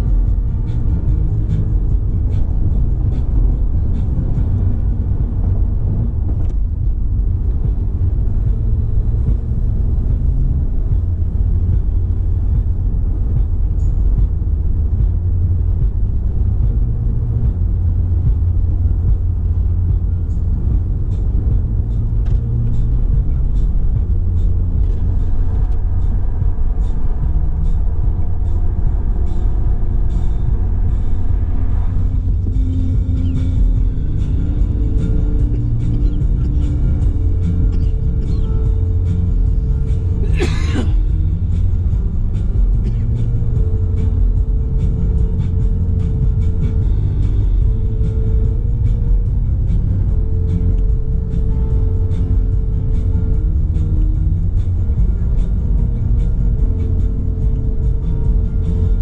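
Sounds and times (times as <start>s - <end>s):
car driving on road rumble: 0.0s - 59.0s
instrumental background music: 0.0s - 59.0s.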